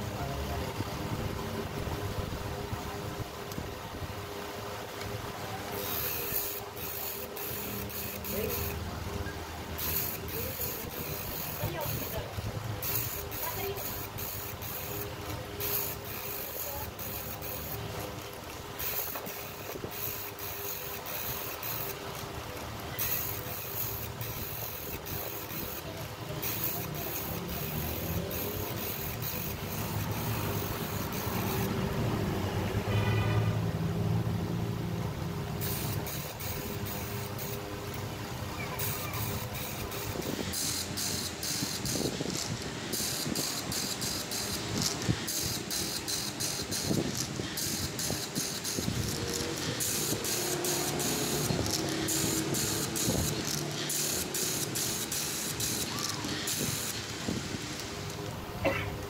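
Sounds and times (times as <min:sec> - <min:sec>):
sharpener motor humming: 0:05.0 - 0:32.0, 0:35.5 - 0:58.5
grinding wheel on chain: 0:05.6 - 0:32.3, 0:35.4 - 0:58.4.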